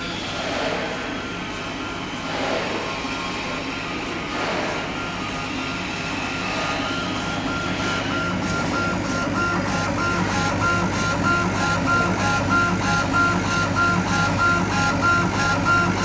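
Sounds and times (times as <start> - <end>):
laser engraver head whining: 0.0 - 16.0
low machine hum: 0.0 - 16.0.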